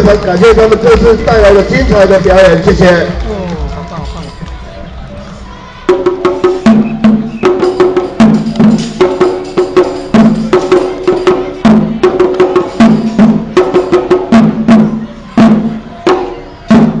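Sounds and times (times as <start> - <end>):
drum ensemble playing: 0.0 - 17.0.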